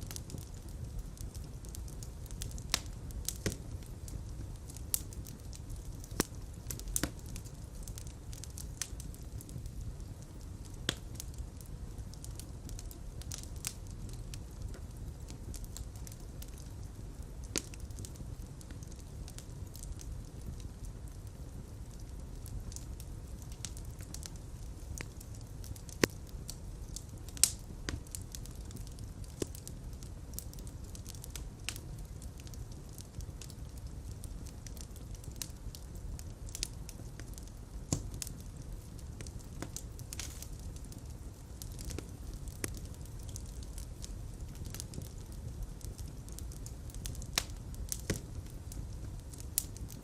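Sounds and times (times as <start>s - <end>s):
fire crackling in a fireplace: 0.0s - 50.0s.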